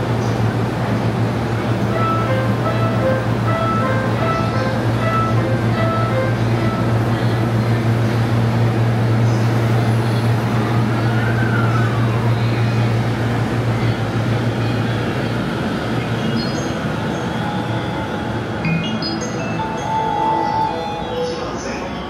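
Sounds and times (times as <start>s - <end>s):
electric train low hum: 0.0s - 22.0s.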